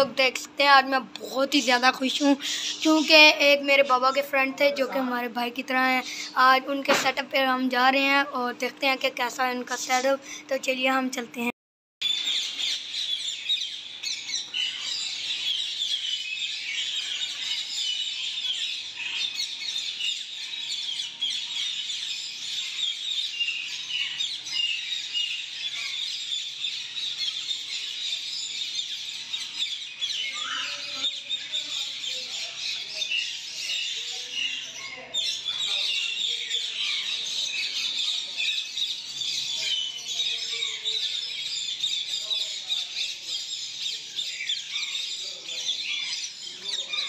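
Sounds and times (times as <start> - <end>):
chorus of small birds chirping: 0.0 - 47.0.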